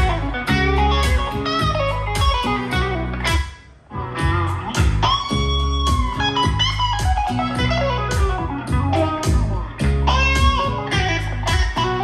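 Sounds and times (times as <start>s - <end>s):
blues song with electric guitar: 0.0s - 12.0s.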